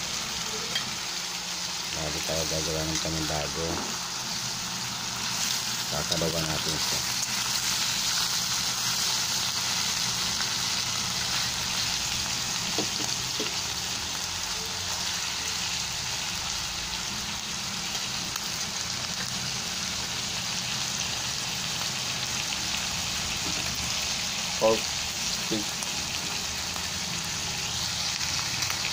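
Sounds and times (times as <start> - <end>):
meat sizzling in hot oil: 0.0 - 28.9.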